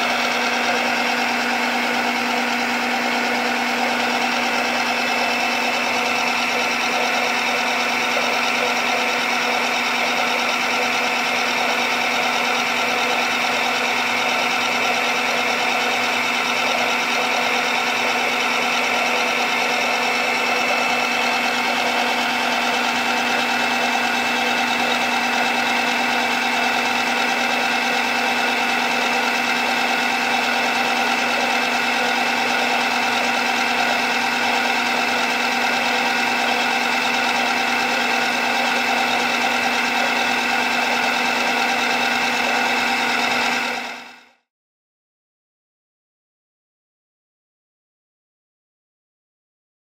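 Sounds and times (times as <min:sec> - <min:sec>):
machine hum with steady whine: 0:00.0 - 0:44.4.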